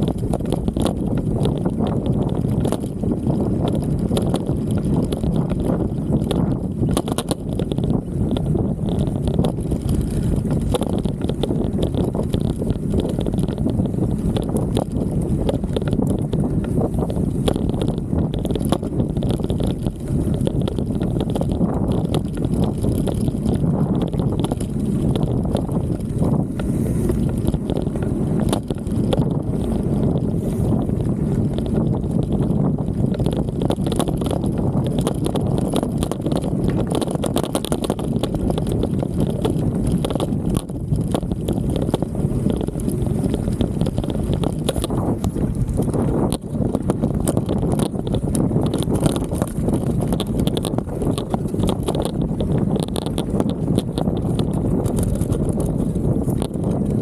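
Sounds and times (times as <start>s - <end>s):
bike and camera mount rattling: 0.0s - 57.0s
wind noise on microphone: 0.0s - 57.0s.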